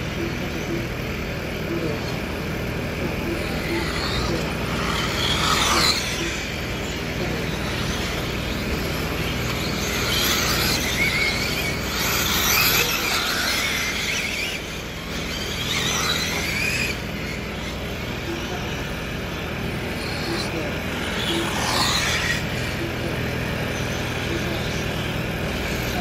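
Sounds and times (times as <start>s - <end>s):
rc cars whining past: 0.0s - 26.0s.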